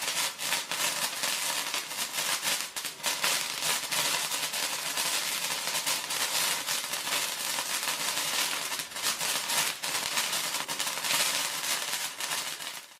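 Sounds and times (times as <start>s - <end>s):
sparklers fizzing and crackling: 0.0s - 12.9s.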